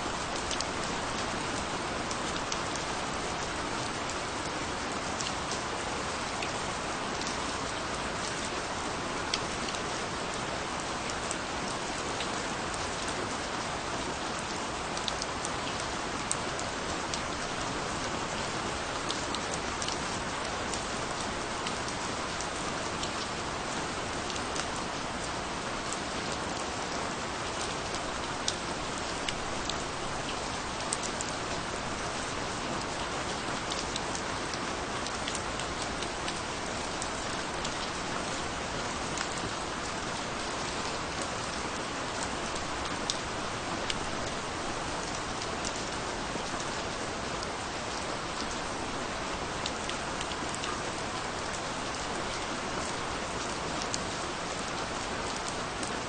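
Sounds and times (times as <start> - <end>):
steady rain falling: 0.0 - 56.0
raindrops ticking close by: 5.2 - 56.0.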